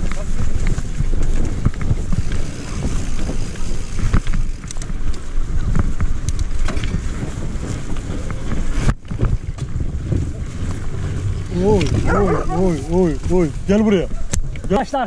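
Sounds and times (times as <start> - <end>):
bike rattling over rough ground: 0.0 - 15.0
wind buffeting microphone: 0.0 - 15.0.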